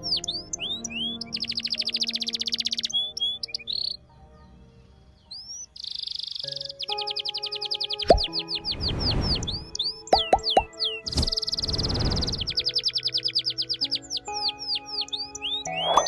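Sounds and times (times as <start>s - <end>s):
soft background music: 0.0s - 16.0s
songbirds chirping and trilling: 0.0s - 16.0s.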